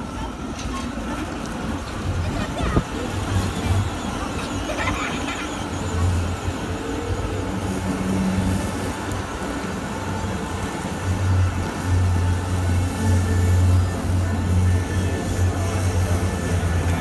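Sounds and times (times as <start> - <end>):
city traffic noise: 0.0 - 17.0
trams rumbling past: 0.0 - 17.0.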